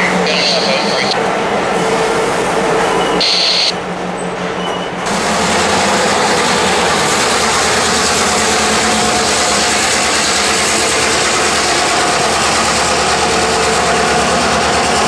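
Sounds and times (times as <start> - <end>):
diesel locomotive rumbling past: 0.0 - 15.0.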